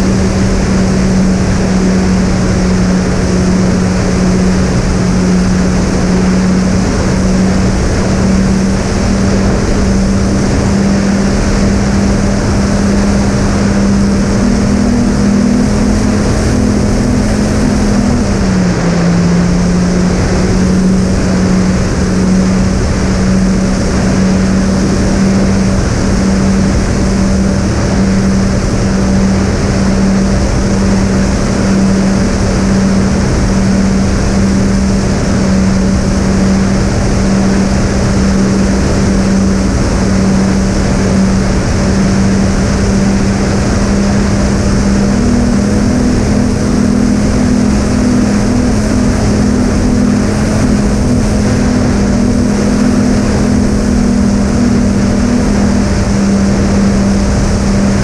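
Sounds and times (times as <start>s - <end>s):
electric motors droning: 0.0s - 58.0s
rush of air noise: 0.0s - 58.0s.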